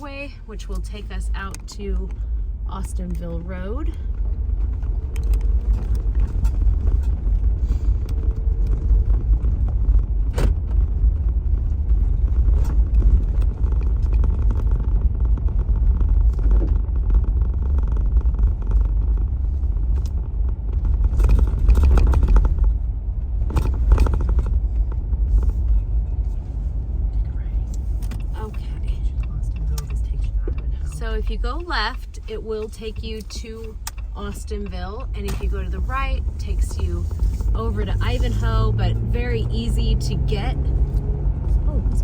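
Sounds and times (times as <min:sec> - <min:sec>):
car road rumble from inside: 0:00.0 - 0:42.0.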